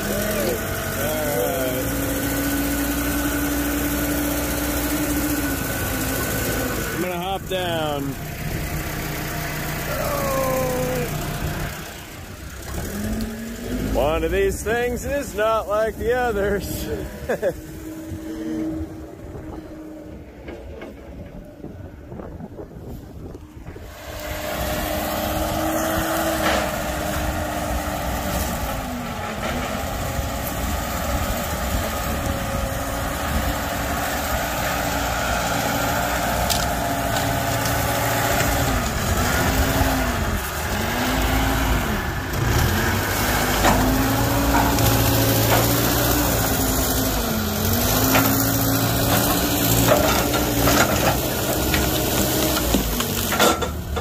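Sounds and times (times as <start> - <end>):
diesel engine working under load: 0.0 - 54.0.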